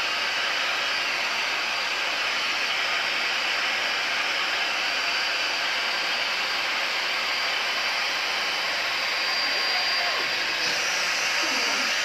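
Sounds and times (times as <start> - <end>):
electric air pump whirring: 0.0 - 12.0.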